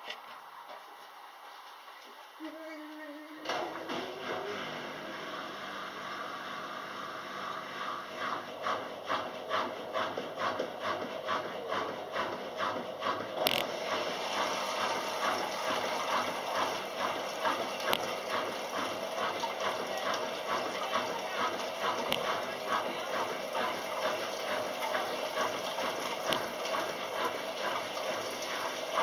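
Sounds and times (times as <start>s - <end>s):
washing machine running: 0.0s - 29.0s.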